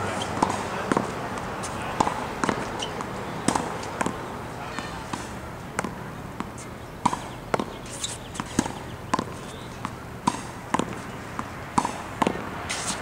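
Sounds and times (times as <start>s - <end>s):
tennis ball hit with racquet: 0.1s - 13.0s
ball bouncing on hard court: 0.2s - 4.2s, 4.8s - 7.8s, 8.4s - 13.0s.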